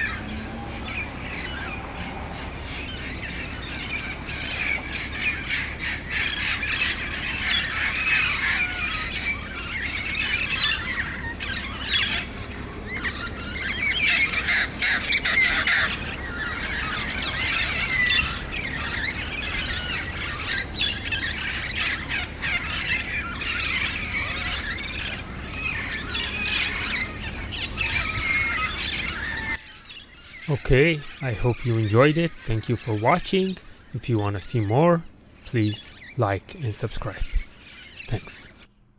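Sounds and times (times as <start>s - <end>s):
parrots squawking and chattering: 0.0s - 38.7s.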